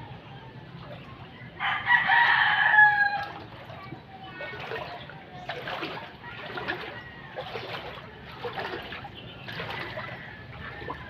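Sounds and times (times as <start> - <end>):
floodwater splashing and sloshing: 0.0 - 11.0.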